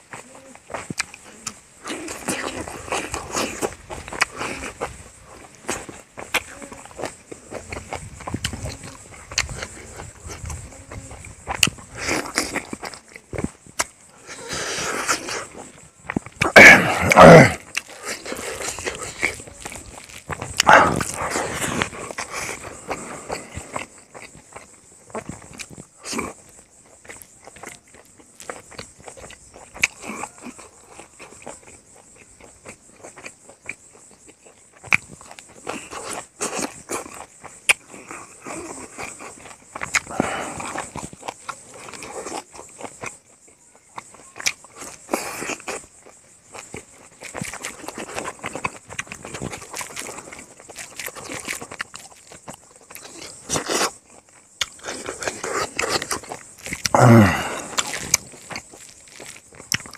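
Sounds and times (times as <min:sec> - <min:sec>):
insects chirring: 0:00.0 - 0:59.9
chewing and lip-smacking: 0:00.1 - 0:59.9.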